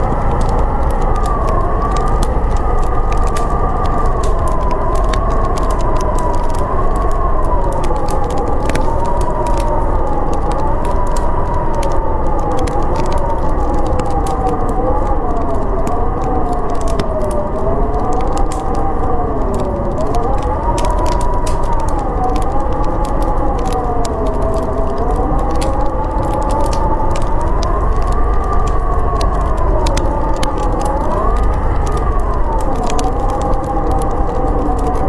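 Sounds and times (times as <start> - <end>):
howling wind: 0.0 - 35.0
wood fire crackling: 0.0 - 35.0.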